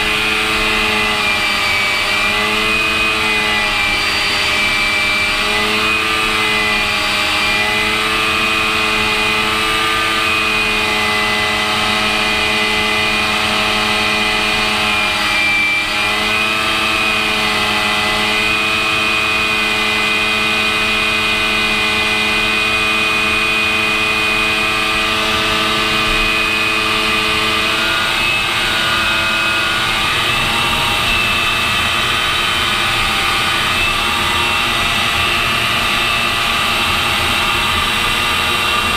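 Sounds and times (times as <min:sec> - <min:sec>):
jet engine drone: 0:00.0 - 0:38.9
whining tones: 0:00.0 - 0:38.9.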